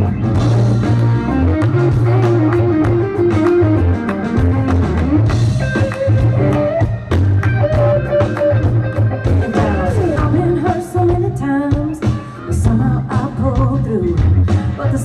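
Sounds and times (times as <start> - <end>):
bass guitar: 0.0 - 15.0
drum kit: 0.0 - 15.0
electric guitar lines: 0.0 - 15.0.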